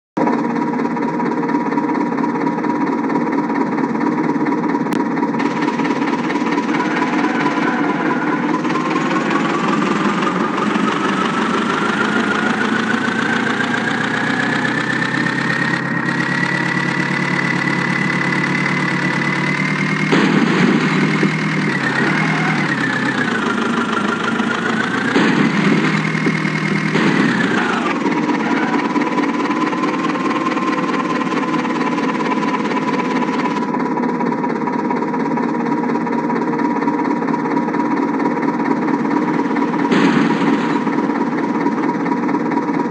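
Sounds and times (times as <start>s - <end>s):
heavy diesel engine running: 0.2s - 42.9s.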